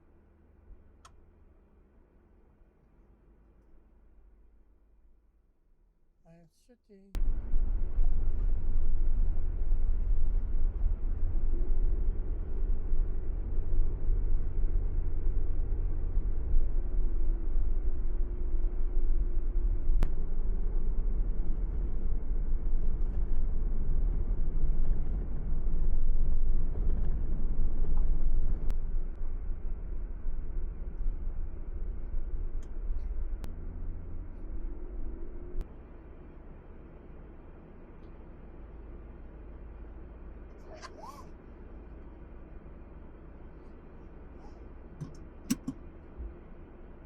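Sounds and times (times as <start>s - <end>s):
car engine and tyre rumble: 0.0s - 5.4s, 7.2s - 47.0s.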